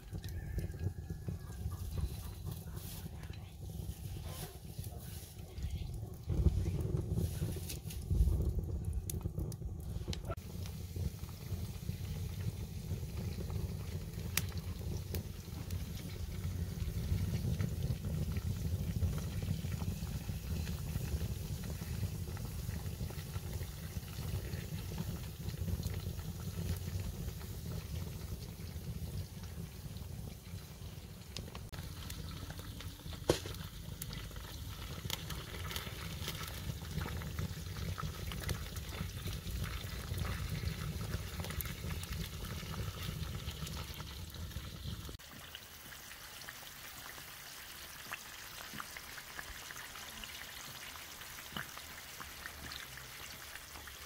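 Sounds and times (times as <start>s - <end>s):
pot of water boiling: 0.0s - 54.0s
wood fire crackling: 0.0s - 54.0s.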